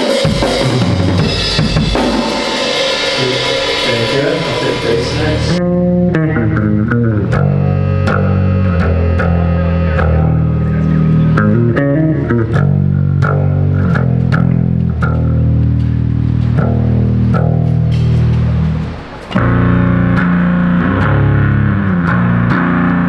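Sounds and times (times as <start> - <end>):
electric bass guitar notes: 0.0 - 23.0.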